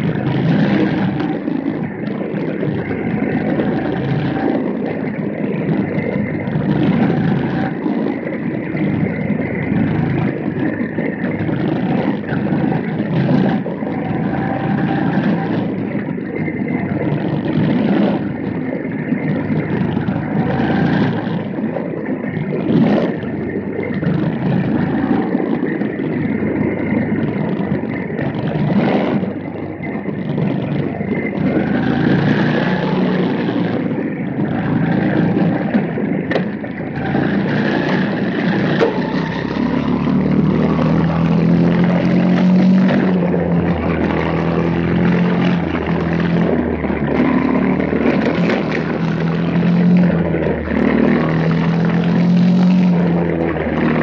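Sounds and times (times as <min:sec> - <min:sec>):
small race car engines buzzing: 0:00.0 - 0:54.0.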